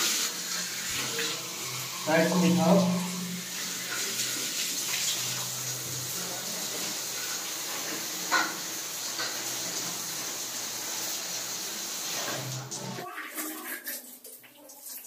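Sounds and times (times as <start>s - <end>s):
water spraying on tiles: 0.0s - 15.0s.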